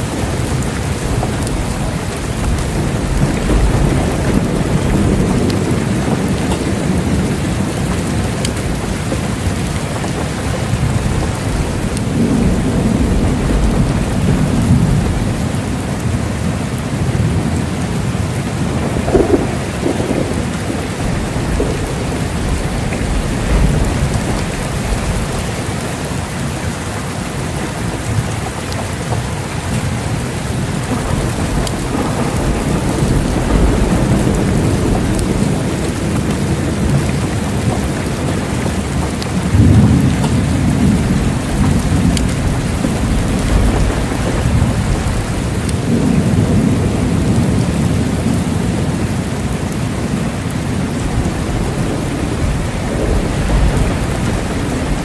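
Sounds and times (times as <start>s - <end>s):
low thunder rumbling: 0.0s - 55.0s
steady rain falling: 0.0s - 55.0s.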